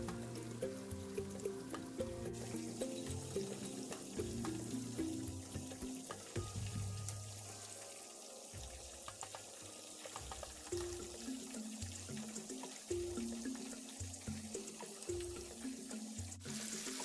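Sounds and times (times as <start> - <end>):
background music: 0.0 - 17.0
wings deep-frying in oil: 0.0 - 17.0.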